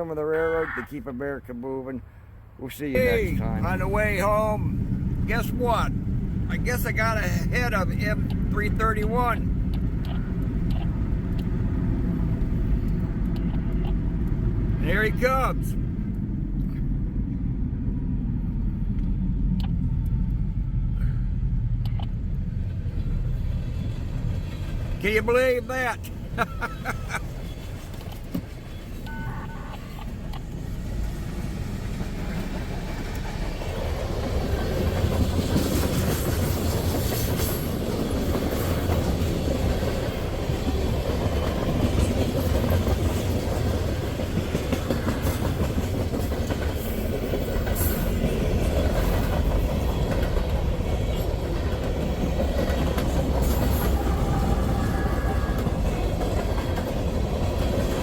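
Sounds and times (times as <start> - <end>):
freight train rumbling: 2.0 - 58.0.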